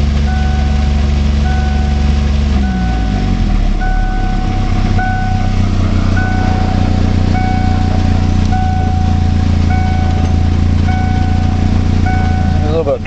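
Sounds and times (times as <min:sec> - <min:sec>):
car engine running: 0:00.0 - 0:13.0
electronic beep: 0:00.2 - 0:13.0.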